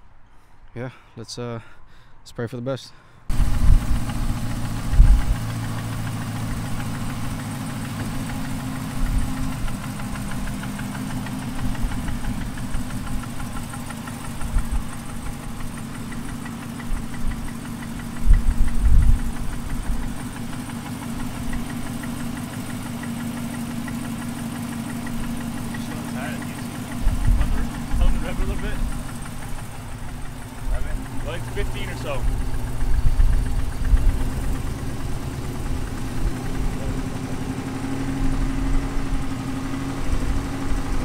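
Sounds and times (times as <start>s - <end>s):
car engine idling with ticking: 3.3s - 41.0s.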